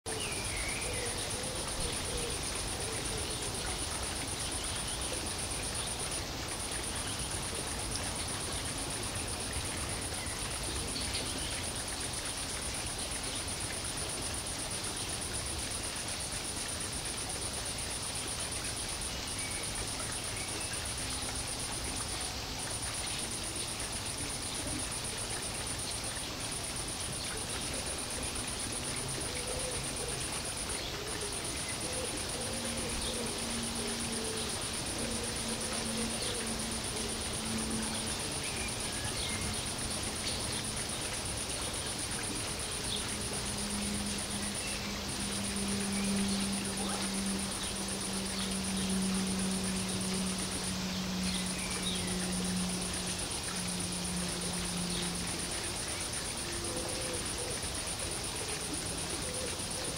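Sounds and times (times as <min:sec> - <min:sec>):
background hiss: 0:00.1 - 0:59.9
high-pitched whine: 0:00.1 - 0:59.9.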